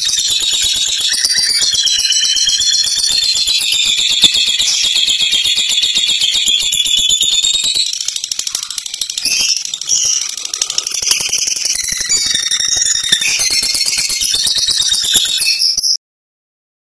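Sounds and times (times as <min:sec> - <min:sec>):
bird shrill chattering trill: 0:00.0 - 0:16.0
high bird chirps: 0:00.0 - 0:16.0.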